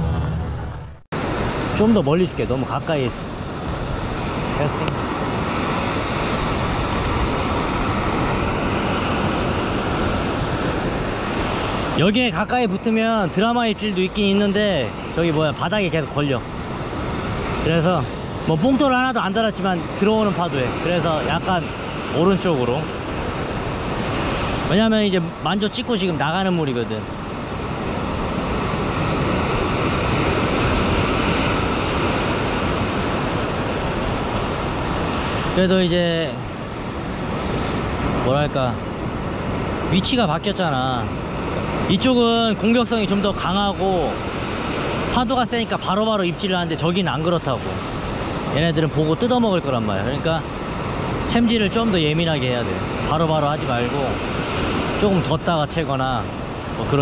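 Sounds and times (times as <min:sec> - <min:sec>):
ocean surf breaking on rocks: 0:00.0 - 0:57.0.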